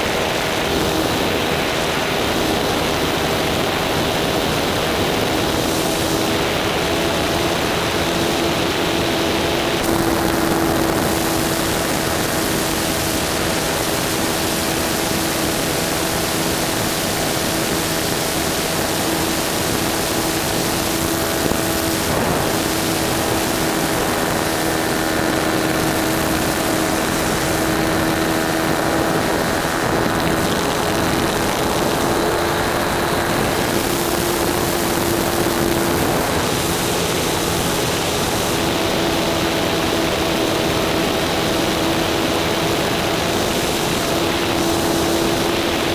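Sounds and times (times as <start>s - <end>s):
model airplane engine running: 0.0s - 45.9s
wind rush: 0.0s - 45.9s.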